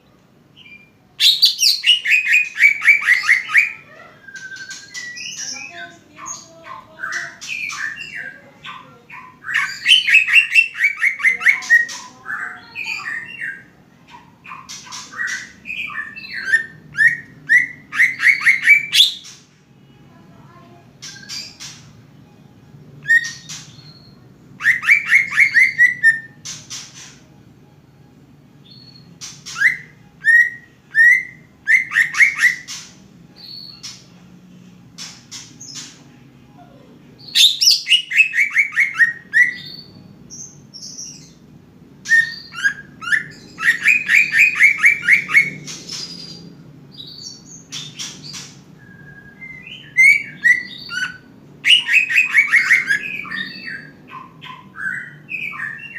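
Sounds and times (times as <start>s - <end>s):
bird singing trills and chirps: 0.6s - 19.5s, 20.5s - 22.0s, 23.0s - 27.3s, 28.6s - 34.3s, 35.0s - 55.9s.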